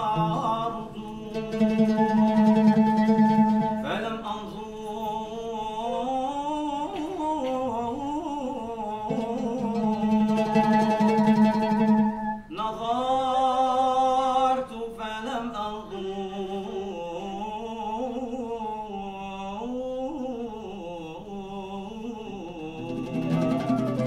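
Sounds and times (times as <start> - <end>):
man singing a slow chant: 0.0 - 2.7, 3.7 - 10.8, 12.5 - 23.8.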